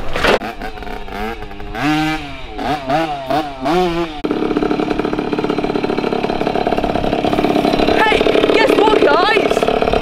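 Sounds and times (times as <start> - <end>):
two-stroke motorbike engine revving: 0.2 - 10.0.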